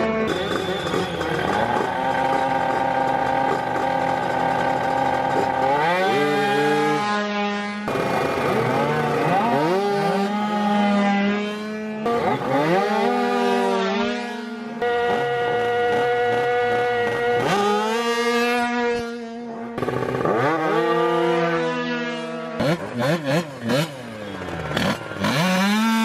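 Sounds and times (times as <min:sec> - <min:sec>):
scooter engines revving and launching: 0:00.0 - 0:26.0.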